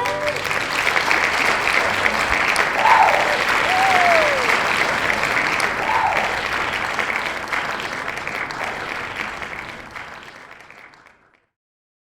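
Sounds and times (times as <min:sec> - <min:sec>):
applause: 0:00.0 - 0:11.6.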